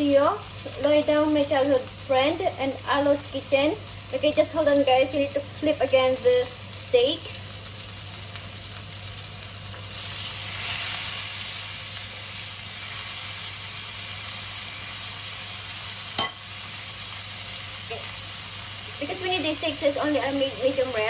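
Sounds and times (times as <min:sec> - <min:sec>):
steak sizzling in a pan: 0:00.0 - 0:21.0.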